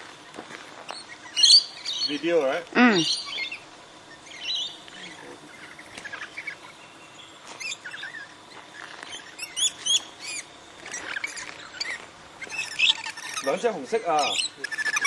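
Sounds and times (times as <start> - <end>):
parrots chirping: 0.2 - 15.0.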